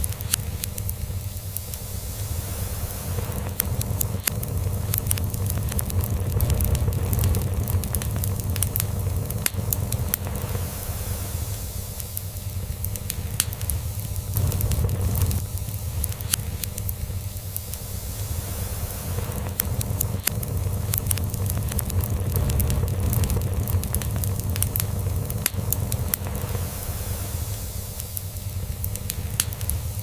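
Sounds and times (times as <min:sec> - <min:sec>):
log fire crackling and popping: 0:00.0 - 0:30.0.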